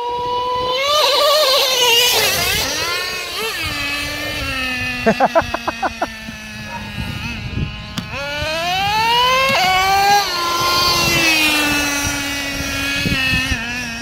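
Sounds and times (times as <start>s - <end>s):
nitro engine revving: 0.0s - 14.0s.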